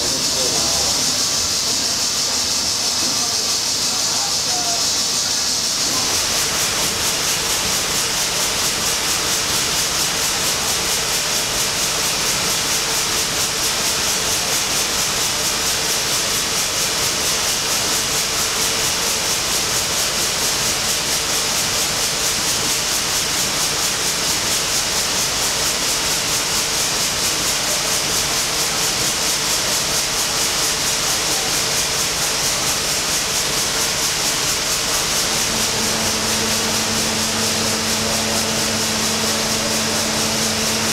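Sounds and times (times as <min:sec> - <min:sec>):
steam machinery hissing: 0:00.0 - 0:40.9.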